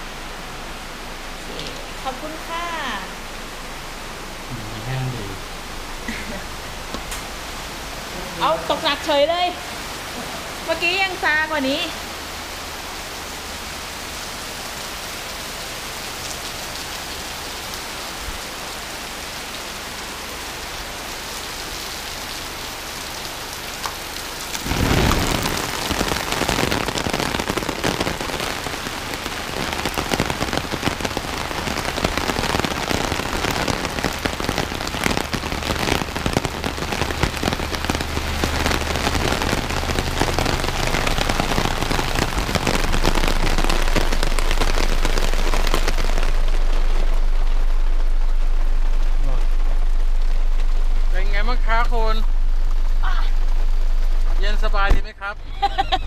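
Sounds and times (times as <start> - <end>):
low steady hum: 0.0 - 15.4, 16.6 - 56.0
heavy rain pouring: 0.0 - 56.0
raindrops drumming on an umbrella: 0.0 - 56.0.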